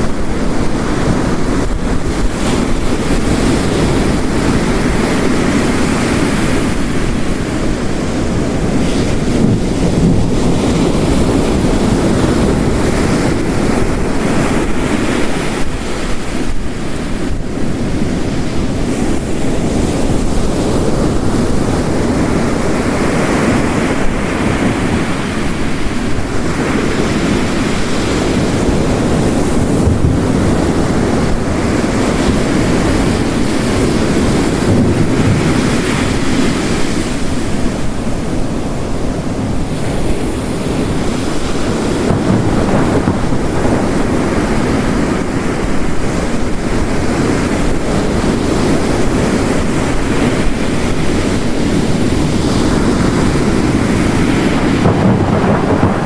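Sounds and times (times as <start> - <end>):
heavy rain: 0.0 - 56.0
ocean waves crashing on rocks: 0.0 - 56.0.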